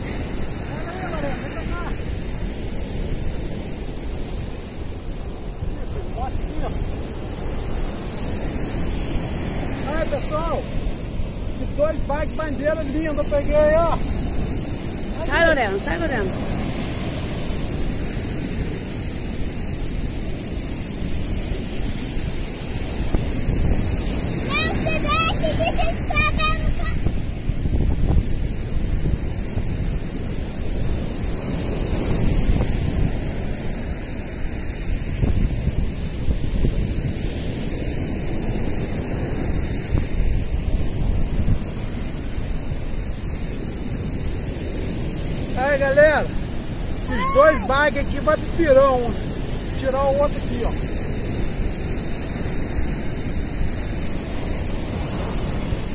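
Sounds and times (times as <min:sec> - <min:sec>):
ocean surf breaking: 0:00.0 - 0:55.9
wind rumbling on microphone: 0:00.0 - 0:55.9.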